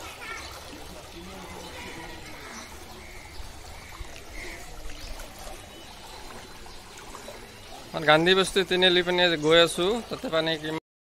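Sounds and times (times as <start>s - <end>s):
floodwater rushing through street: 0.0s - 10.8s.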